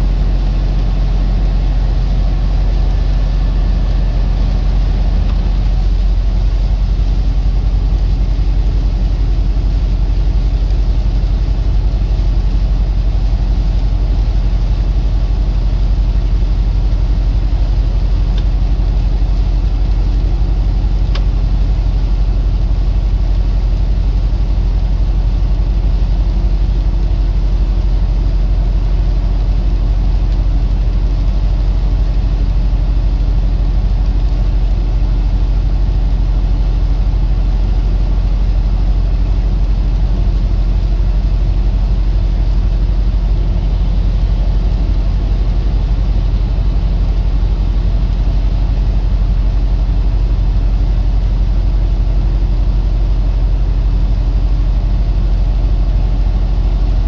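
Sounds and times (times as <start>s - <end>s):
truck engine and road drone: 0.0s - 57.0s.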